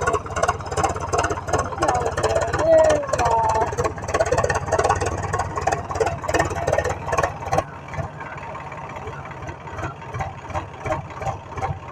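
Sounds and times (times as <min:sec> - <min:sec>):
engine idling: 0:00.0 - 0:11.9.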